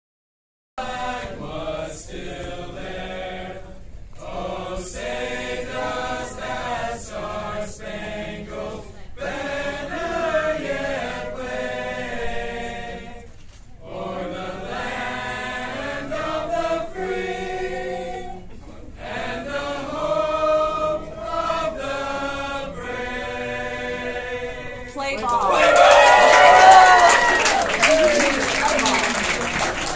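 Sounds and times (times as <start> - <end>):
choir singing an anthem: 0.8 - 27.8.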